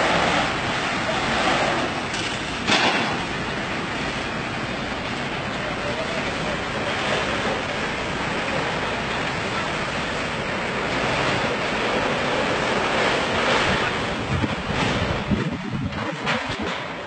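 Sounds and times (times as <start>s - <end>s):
fire hose spraying water: 0.0s - 17.0s.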